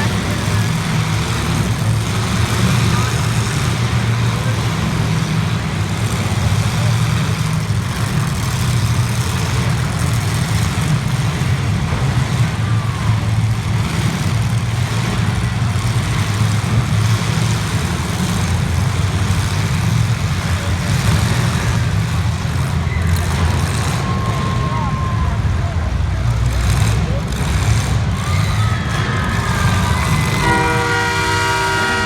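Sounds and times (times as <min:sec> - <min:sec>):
car engines droning: 0:00.0 - 0:32.0.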